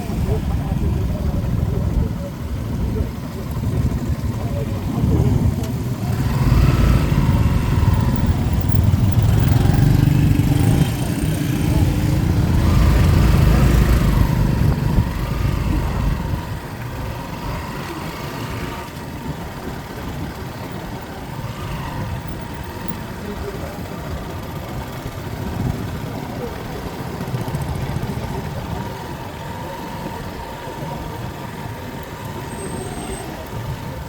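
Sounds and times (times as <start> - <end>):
vehicle engines revving: 0.0 - 34.0.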